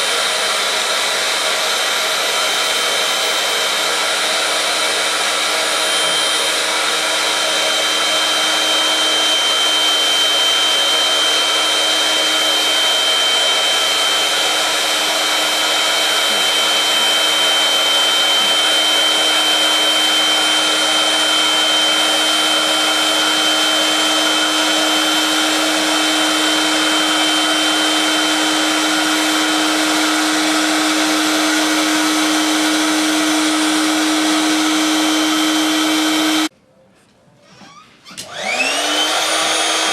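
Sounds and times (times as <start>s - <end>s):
electric air pump running: 0.0s - 36.5s, 38.2s - 39.9s.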